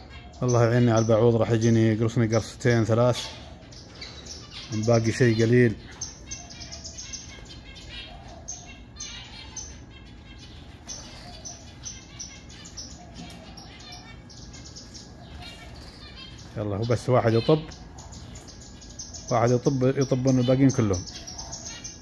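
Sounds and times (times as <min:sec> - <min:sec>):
finches chirping: 0:00.0 - 0:22.0.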